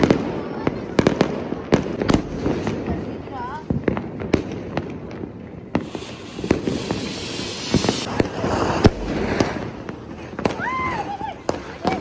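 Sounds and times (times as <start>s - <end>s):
firecrackers banging: 0.0s - 12.0s
firework hissing: 0.0s - 12.0s.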